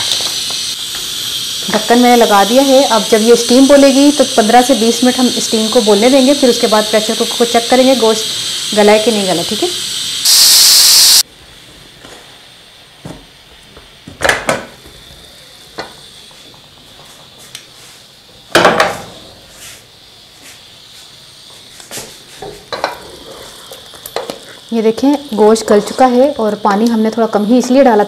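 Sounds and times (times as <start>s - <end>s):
pressure cooker steam hiss: 0.0s - 28.0s.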